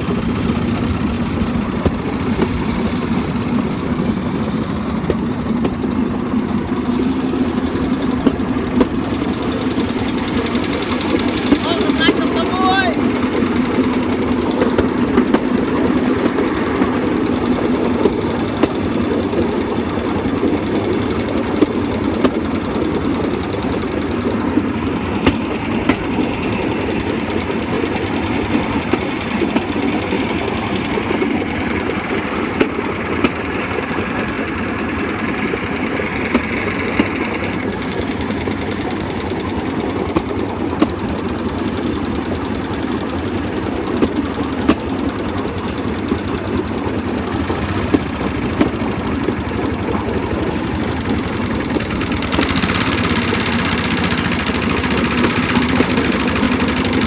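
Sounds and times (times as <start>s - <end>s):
platform rattling on rails: 0.0s - 57.0s
sharp clacks on rails: 0.0s - 57.0s
small engine running: 0.0s - 57.0s.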